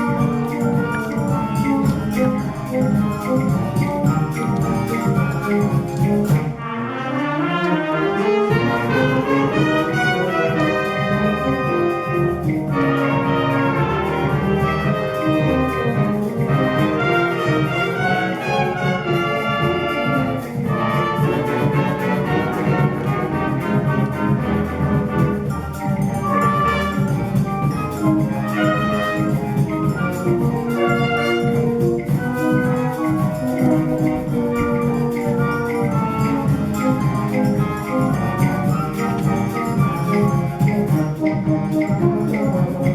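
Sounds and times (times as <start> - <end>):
concert band with brass: 0.0 - 42.9.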